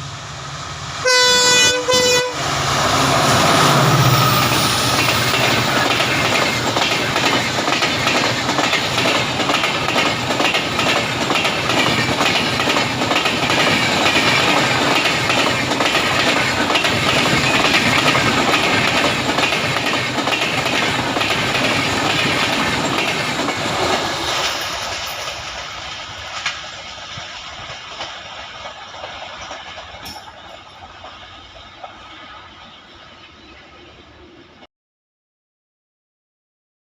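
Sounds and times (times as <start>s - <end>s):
train wheels clickety-clack: 1.0s - 34.0s.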